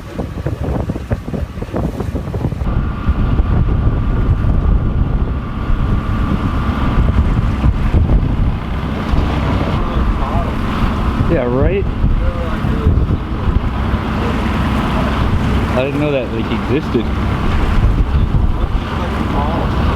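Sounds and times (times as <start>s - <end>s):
water rushing past hull: 0.0s - 19.9s
wind buffeting microphone: 0.0s - 19.9s
faint steady whine: 2.6s - 19.9s.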